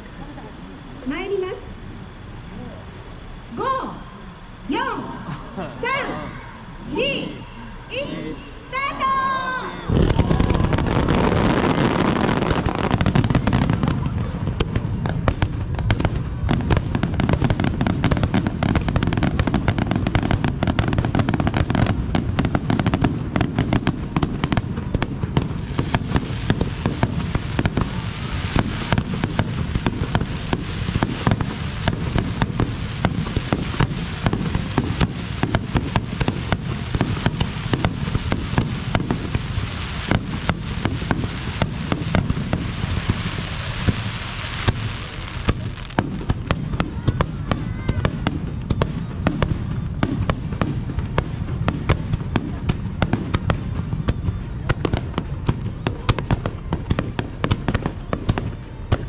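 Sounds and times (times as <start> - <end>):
fireworks booming and crackling: 9.5 - 59.0.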